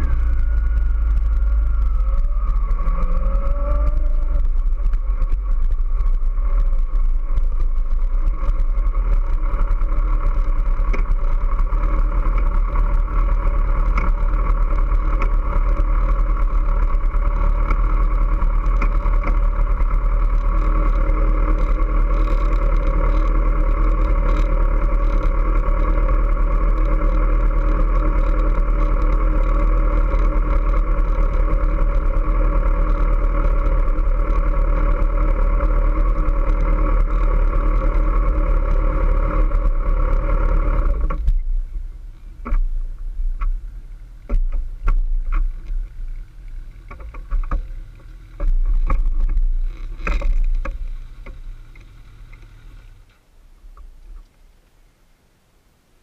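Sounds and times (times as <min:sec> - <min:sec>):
motorcycle engine low rumble: 0:00.0 - 0:56.0.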